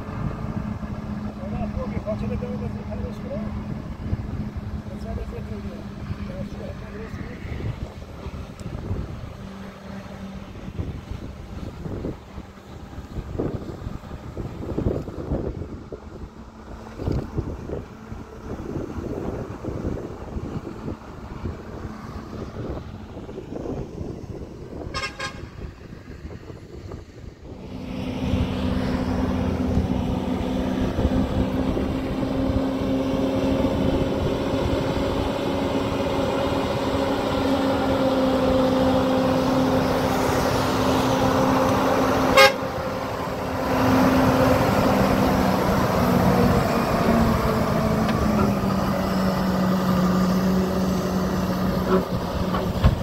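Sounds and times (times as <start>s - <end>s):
steady engine drone: 0.0s - 53.0s.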